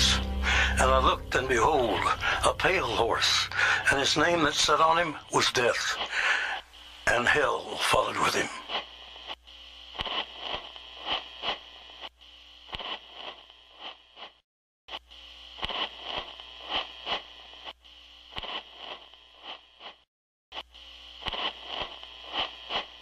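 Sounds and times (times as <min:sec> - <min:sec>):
crackles and pops: 0:00.0 - 0:23.0
hissing static: 0:00.0 - 0:23.0.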